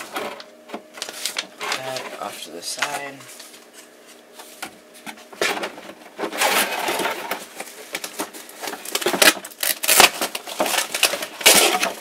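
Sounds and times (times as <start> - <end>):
cardboard rustling and scraping: 1.0 - 12.0.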